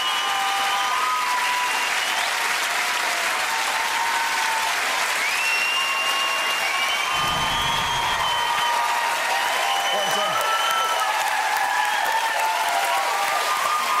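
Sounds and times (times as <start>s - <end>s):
audience applause: 0.0s - 14.0s
high cheers: 0.0s - 14.0s.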